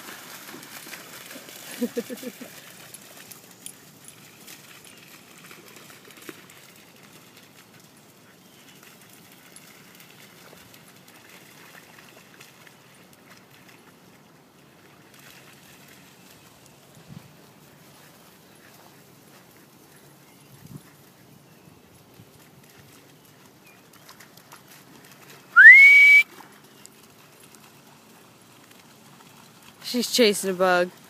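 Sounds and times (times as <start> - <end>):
faint open-air ambience: 0.0 - 31.0.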